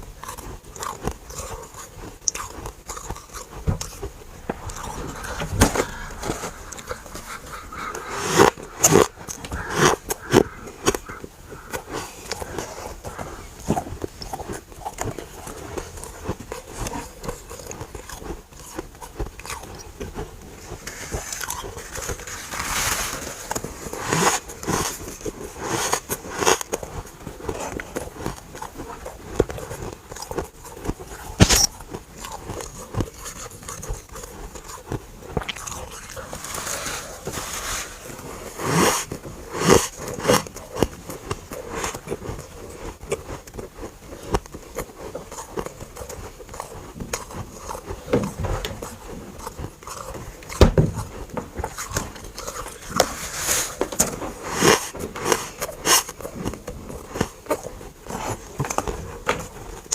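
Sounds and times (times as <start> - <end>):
chewing crunchy frost: 0.0 - 59.9.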